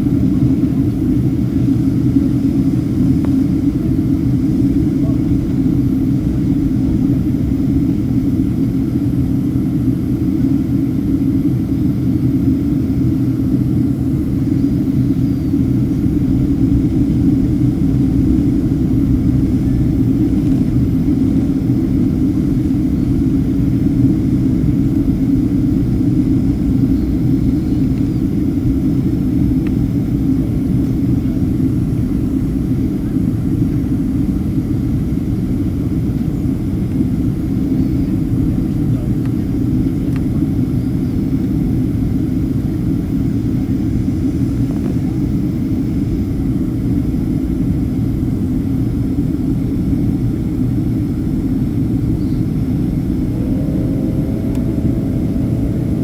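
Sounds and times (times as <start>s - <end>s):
airliner cabin engine rumble: 0.0s - 56.0s.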